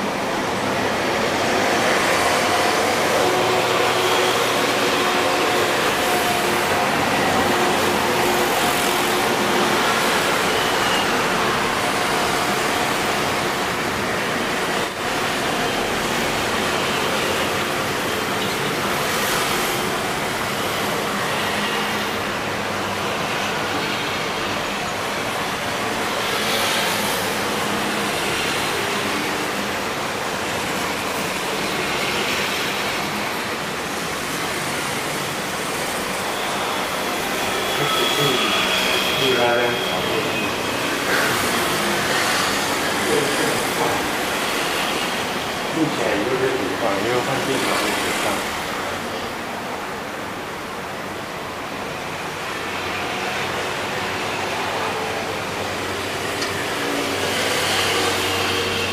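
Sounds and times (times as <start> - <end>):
steady rushing noise: 0.0 - 58.9.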